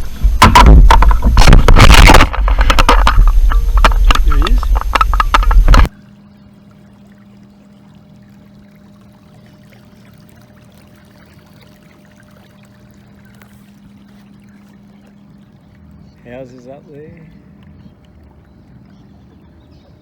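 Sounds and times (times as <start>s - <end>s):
steady low hum: 0.0s - 20.0s
water trickling and lapping: 0.0s - 20.0s.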